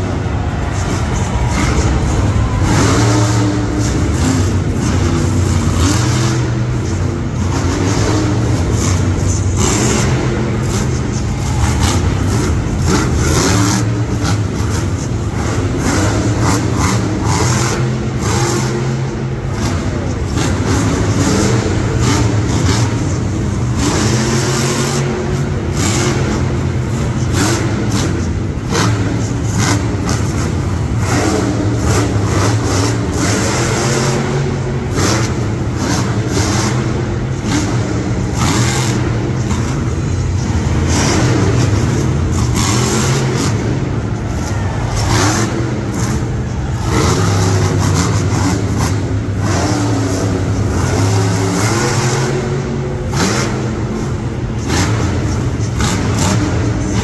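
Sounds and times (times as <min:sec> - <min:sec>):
loud racing engine revving: 0:00.0 - 0:57.0.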